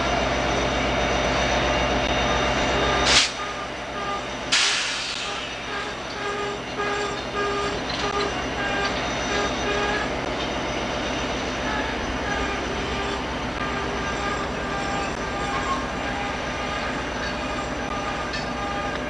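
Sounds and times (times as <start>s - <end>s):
train wheels rumbling on track: 0.0s - 19.0s
short whining tones: 2.1s - 19.0s.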